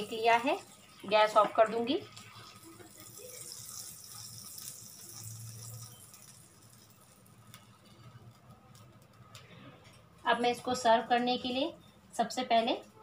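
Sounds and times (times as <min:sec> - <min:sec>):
butter sizzling: 0:00.0 - 0:13.0.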